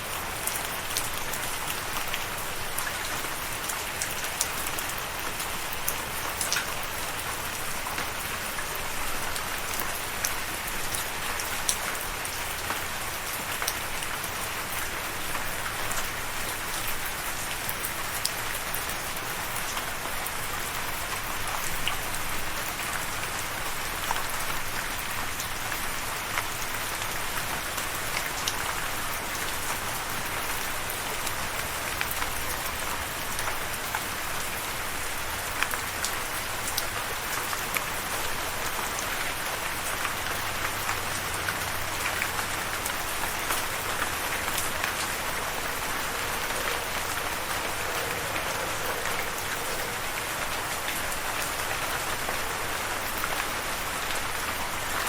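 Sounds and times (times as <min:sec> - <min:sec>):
rain falling: 0:00.0 - 0:55.0
raindrops ticking on a surface: 0:00.0 - 0:55.0.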